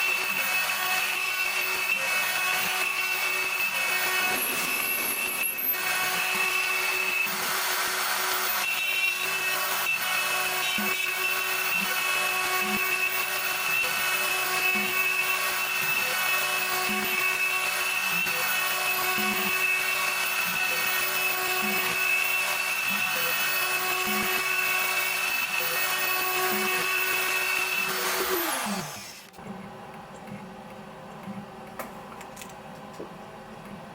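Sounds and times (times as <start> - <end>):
router spindle whine milling wood: 0.0 - 29.4.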